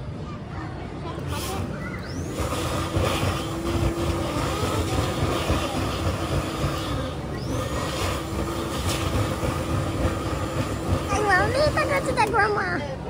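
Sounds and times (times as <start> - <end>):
stuffing machine blower rushing: 1.2 - 13.0.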